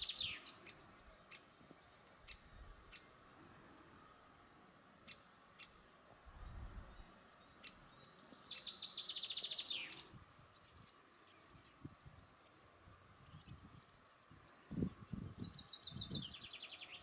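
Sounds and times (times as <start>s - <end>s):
songbird chirping and trilling: 0.0s - 3.3s, 4.4s - 5.9s, 6.9s - 17.0s
faint outdoor background: 0.0s - 17.0s.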